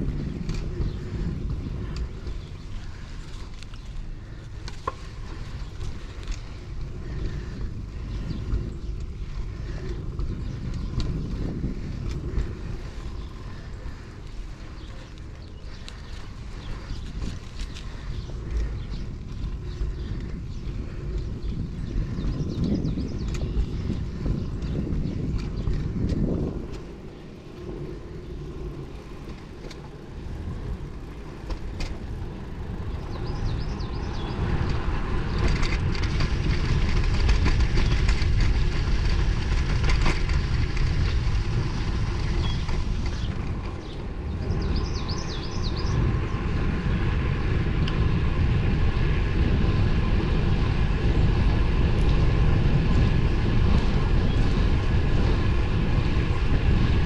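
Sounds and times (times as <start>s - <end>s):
bicycle tyre road noise: 0.0s - 57.0s
wind rushing over microphone: 0.0s - 57.0s.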